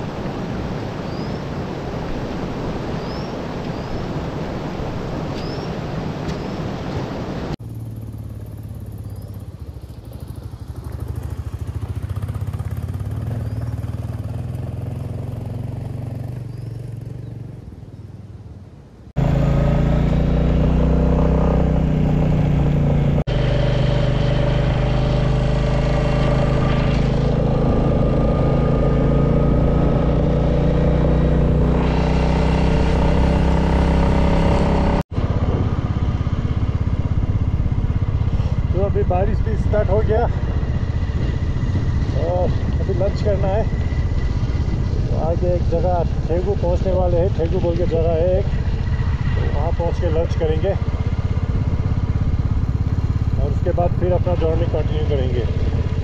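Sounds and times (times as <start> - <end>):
motorcycle engine: 7.6 - 18.5, 19.1 - 56.0.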